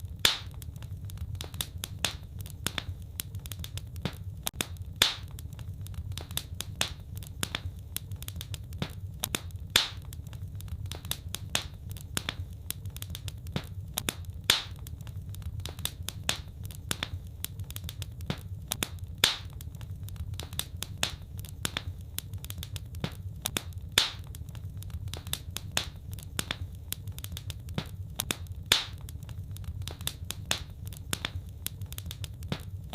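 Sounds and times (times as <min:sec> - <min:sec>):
fireplace fire crackling: 0:00.0 - 0:32.9.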